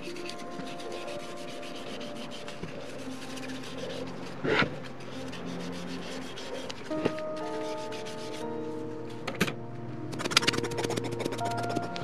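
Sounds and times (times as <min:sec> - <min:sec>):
gloved hands rubbing metal: 0:00.0 - 0:08.5, 0:10.1 - 0:12.0.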